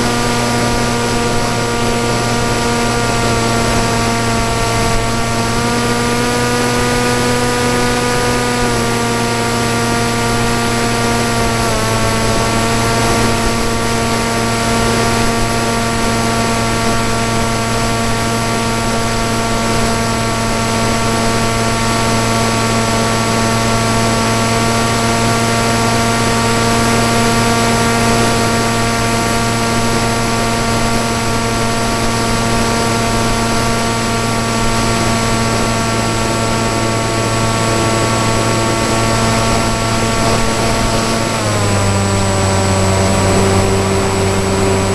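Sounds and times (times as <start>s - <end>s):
electric motor and propeller whine: 0.0s - 44.9s.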